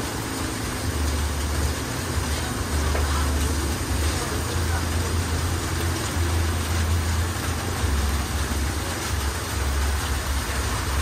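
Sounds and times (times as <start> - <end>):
heavy rain on a metal awning: 0.0 - 11.0.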